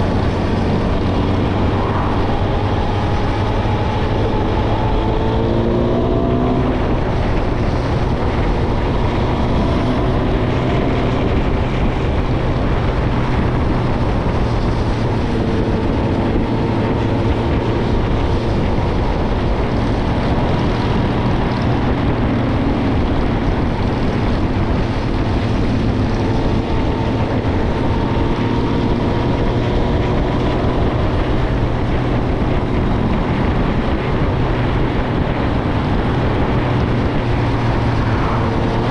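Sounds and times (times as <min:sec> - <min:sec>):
motorcycle engine cruising: 0:00.0 - 0:38.9
wind rushing over microphone: 0:00.0 - 0:38.9.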